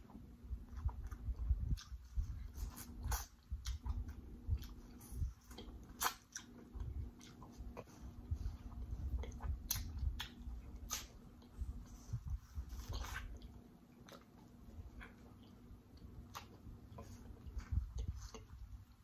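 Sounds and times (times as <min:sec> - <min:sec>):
chewing corn on the cob: 0:00.0 - 0:19.0
mouth smacks and clicks: 0:00.7 - 0:11.6, 0:12.2 - 0:19.0.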